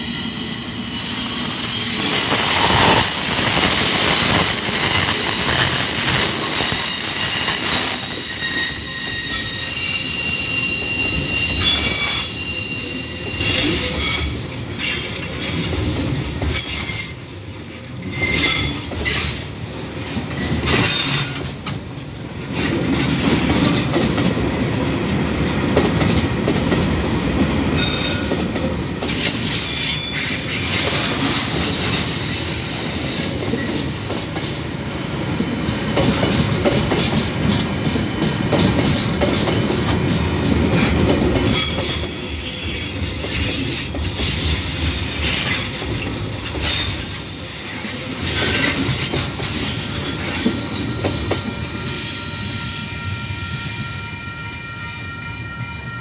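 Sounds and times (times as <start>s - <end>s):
train wheels squealing and clattering: 0.0s - 56.0s.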